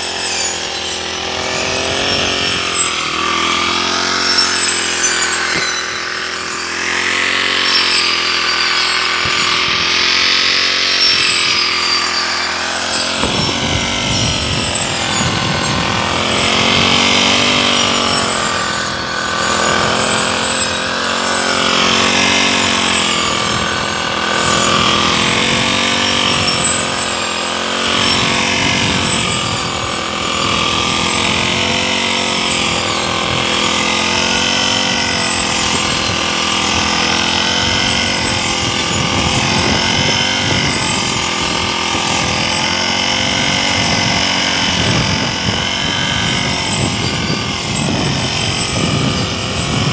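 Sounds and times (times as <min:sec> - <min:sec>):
brush cutter engine cutting grass: 0:00.0 - 0:49.9.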